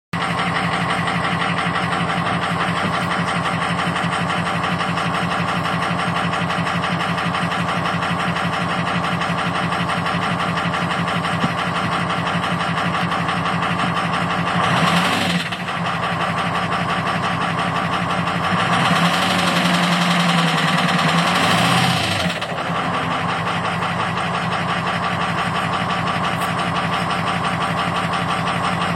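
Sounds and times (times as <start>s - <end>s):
engine idling and revving: 0.2s - 28.9s.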